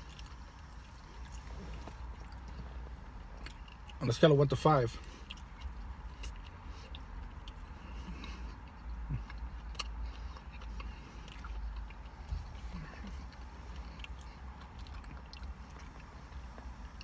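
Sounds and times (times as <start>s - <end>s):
person chewing: 0.0s - 4.1s, 5.0s - 17.0s
steady low rumble: 0.0s - 17.0s.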